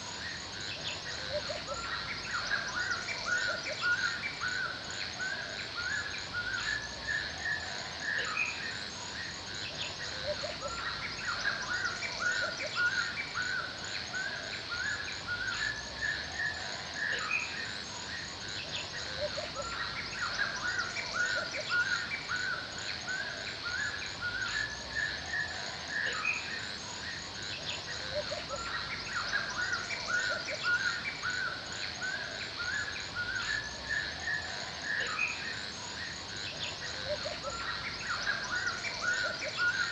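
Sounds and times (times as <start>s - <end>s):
birds chirping: 0.0s - 39.9s
high-pitched insect trill: 0.0s - 39.9s.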